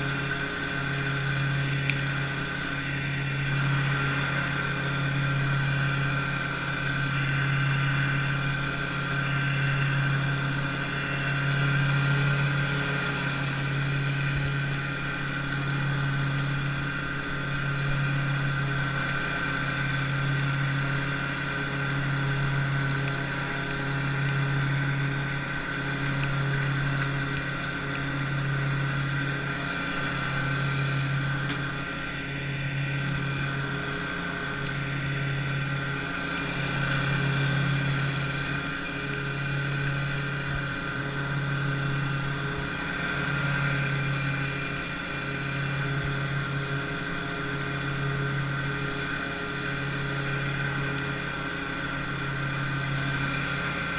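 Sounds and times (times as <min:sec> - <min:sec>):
engine running with low hum: 0:00.0 - 0:53.9.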